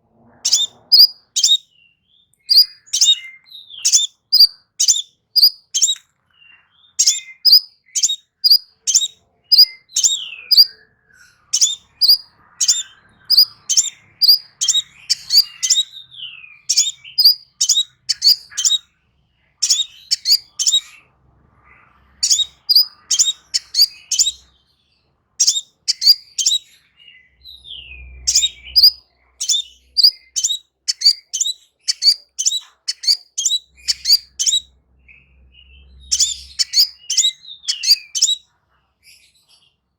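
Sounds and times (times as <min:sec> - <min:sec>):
songbird chirping: 0:00.2 - 0:38.6.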